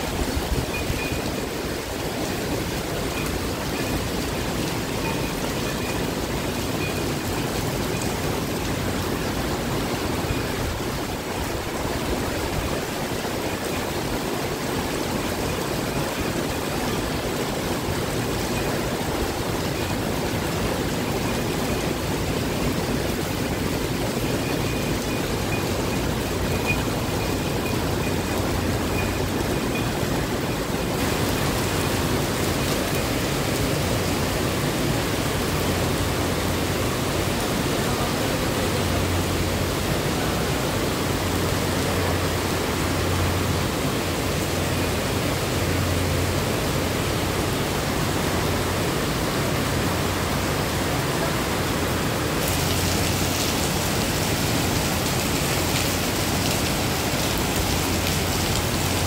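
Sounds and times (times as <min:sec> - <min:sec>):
heavy rain on grass and paving: 0:00.0 - 0:59.0
water splashing on paving: 0:00.0 - 0:59.0.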